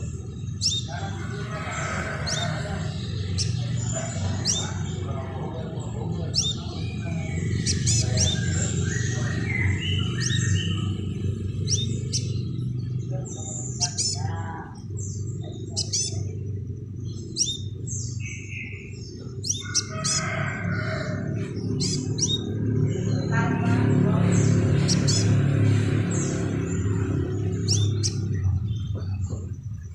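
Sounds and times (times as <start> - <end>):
bird chirping: 0.0 - 29.9
steady low hum: 0.0 - 29.9.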